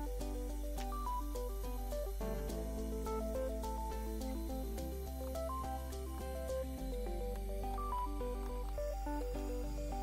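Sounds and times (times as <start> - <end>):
background music melody: 0.0 - 10.0
steady low bass: 0.0 - 10.0.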